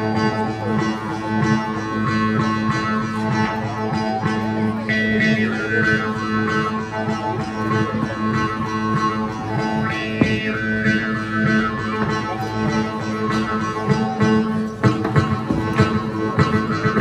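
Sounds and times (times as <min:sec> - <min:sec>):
mouth harp buzzing: 0:00.0 - 0:17.0.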